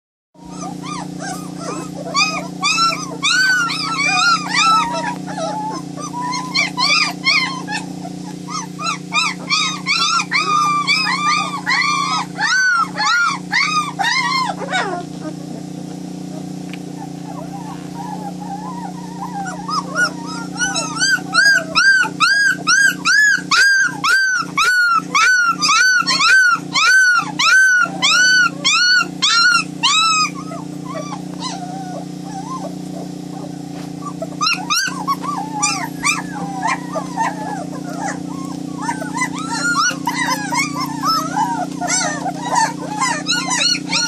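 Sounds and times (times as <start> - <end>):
puppies whining and crying: 0.4 - 44.0
steady low hum: 0.4 - 44.0.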